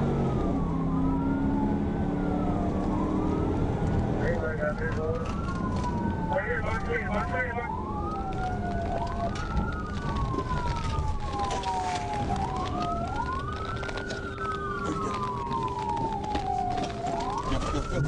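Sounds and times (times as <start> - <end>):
engine and road noise rumble: 0.0 - 18.0
police sirens wailing: 0.0 - 18.0.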